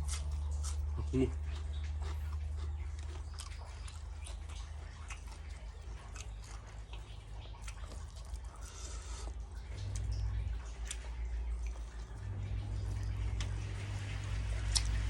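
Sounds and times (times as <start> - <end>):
person chewing: 0.0 - 15.0
steady low hum: 0.0 - 15.0.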